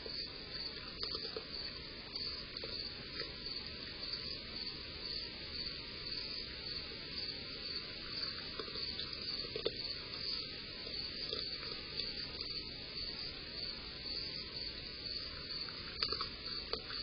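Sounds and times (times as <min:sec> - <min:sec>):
constant background hiss: 0:00.0 - 0:17.0
crickets chirping: 0:00.0 - 0:17.0.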